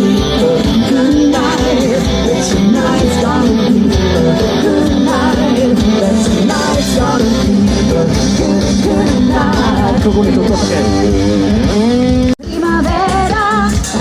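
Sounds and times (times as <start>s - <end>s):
live band playing pop-rock: 0.0s - 14.0s
person singing: 0.0s - 14.0s.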